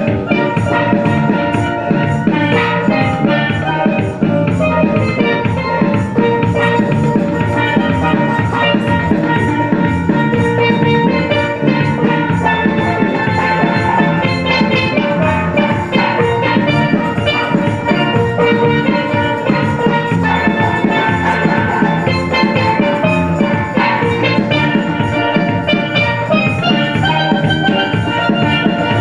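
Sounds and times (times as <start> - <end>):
music with steady drum beat: 0.0 - 29.0.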